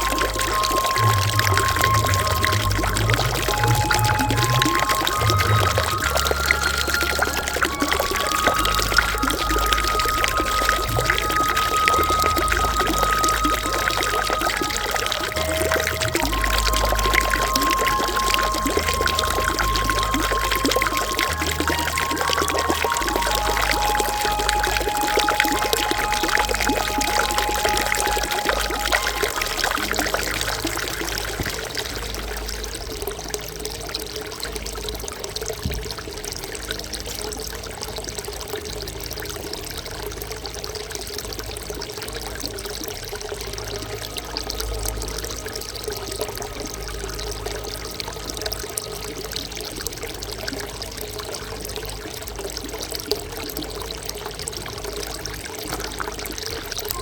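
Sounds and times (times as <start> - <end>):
water pouring into stone basin: 0.0 - 57.0.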